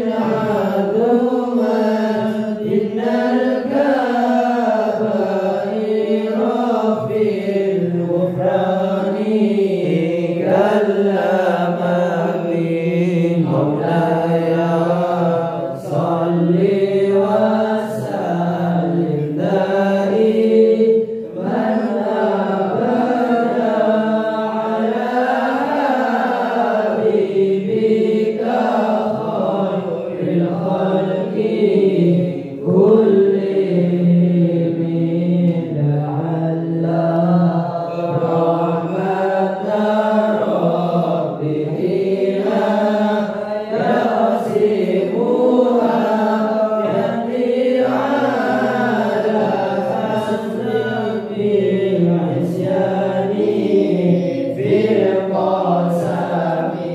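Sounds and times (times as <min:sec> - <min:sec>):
person chanting devotional verses: 0:00.0 - 0:56.9.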